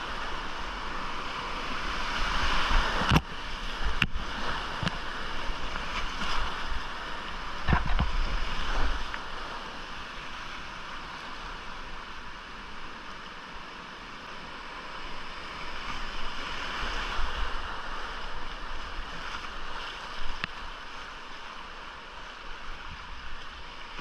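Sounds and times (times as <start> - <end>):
wind rumble on microphone: 0.0 - 12.2, 14.5 - 24.0
whitewater rushing in creek: 0.0 - 24.0.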